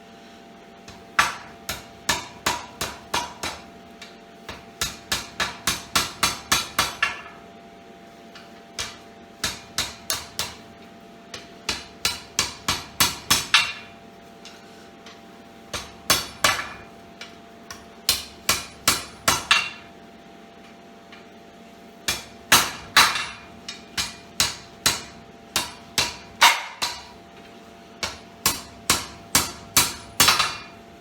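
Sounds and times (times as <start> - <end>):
hammer striking steel on anvil: 0.9 - 7.4, 8.8 - 10.6, 11.3 - 19.9, 22.1 - 27.2, 28.0 - 30.8.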